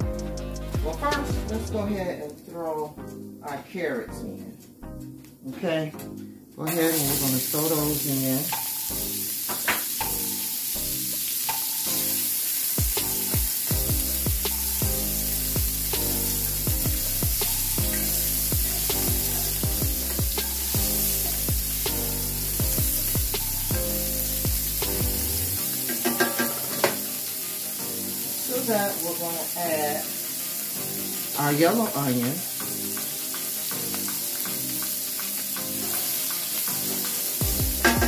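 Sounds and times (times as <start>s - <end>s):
carrots sizzling in oil: 6.7s - 38.0s.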